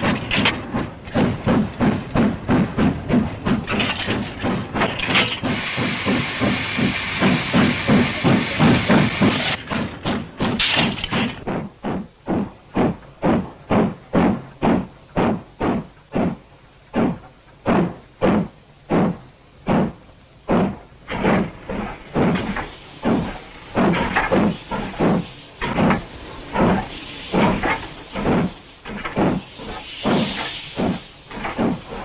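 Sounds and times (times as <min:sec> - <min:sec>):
steam hissing: 0:00.0 - 0:16.4, 0:17.0 - 0:32.0
steam locomotive chuffing: 0:00.0 - 0:32.0.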